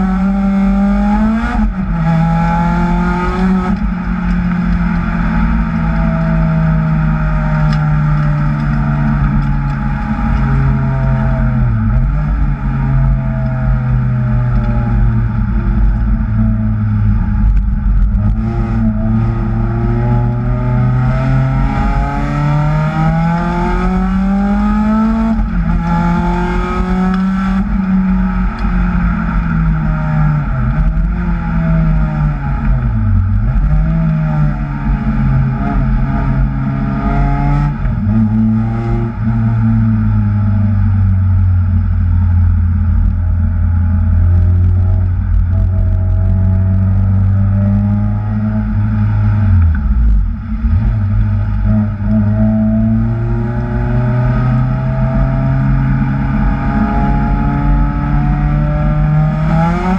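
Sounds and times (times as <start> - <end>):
car engine revving hard: 0.0 - 17.3, 18.0 - 41.0, 43.8 - 59.9.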